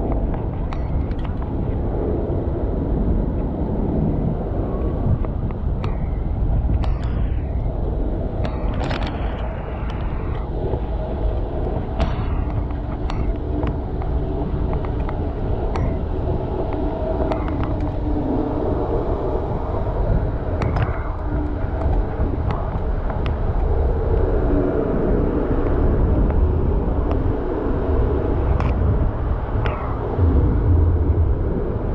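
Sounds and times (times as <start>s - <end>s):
wind rumbling on microphone: 0.0s - 31.9s.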